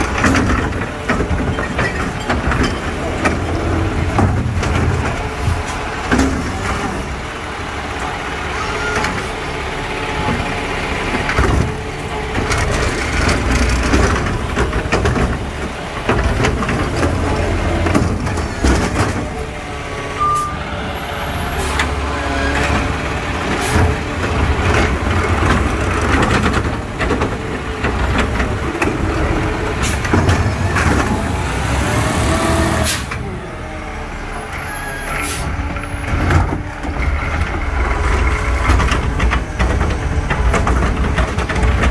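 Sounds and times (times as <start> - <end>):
garbage truck diesel engine: 0.0 - 41.9.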